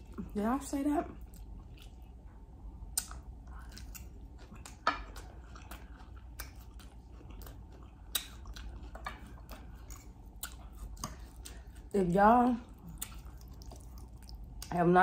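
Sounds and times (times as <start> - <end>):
person chewing food: 1.2 - 12.0, 12.6 - 14.8.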